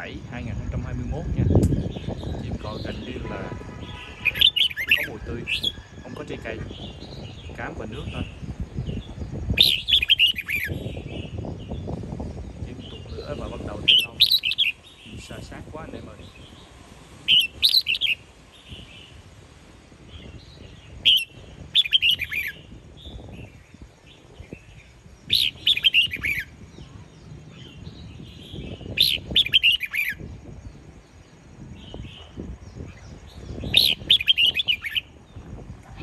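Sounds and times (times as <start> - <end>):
bird singing whistled notes: 0.0 - 19.3, 20.0 - 35.6.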